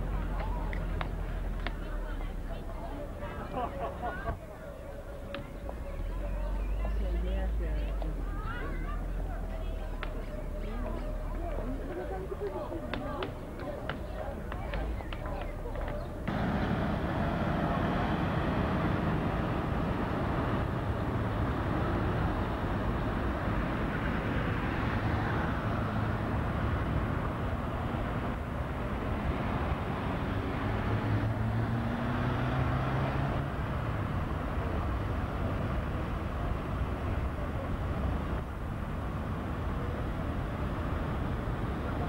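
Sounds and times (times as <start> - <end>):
city traffic noise: 0.0 - 42.0
engine hum: 0.0 - 42.0.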